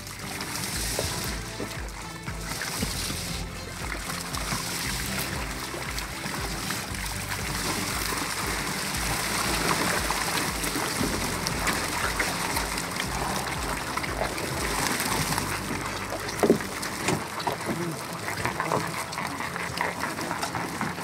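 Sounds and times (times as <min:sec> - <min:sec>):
steady low hum: 0:00.0 - 0:20.9
water splashing off fishing net: 0:00.0 - 0:21.0.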